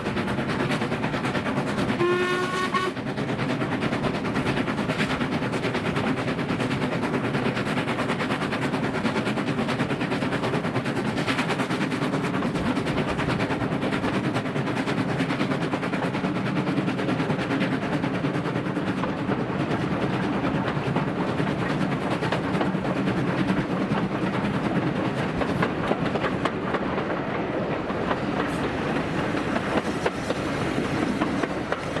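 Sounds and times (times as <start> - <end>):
steam locomotive exhaust beats: 0.0 - 32.0
wheels rumbling on rails: 0.0 - 32.0.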